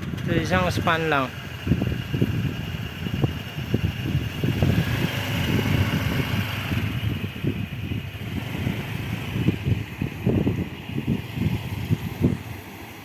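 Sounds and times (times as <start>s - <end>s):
vehicle running: 0.0s - 13.0s
wind buffeting microphone: 0.0s - 13.0s.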